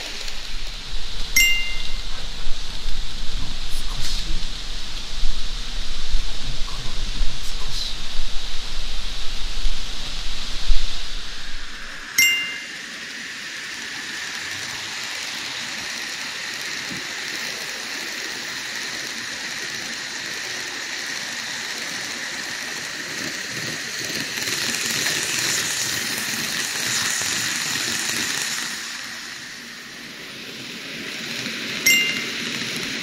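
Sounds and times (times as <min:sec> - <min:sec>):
model train rolling on track: 0:00.0 - 0:33.0.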